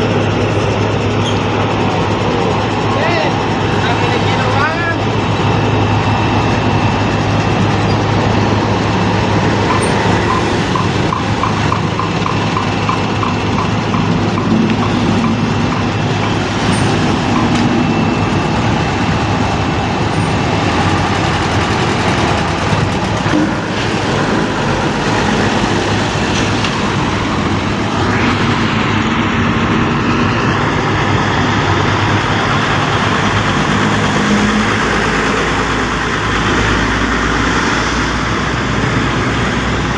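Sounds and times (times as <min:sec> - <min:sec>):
road noise: 0:00.0 - 0:39.9
vehicle engine humming: 0:00.0 - 0:39.9.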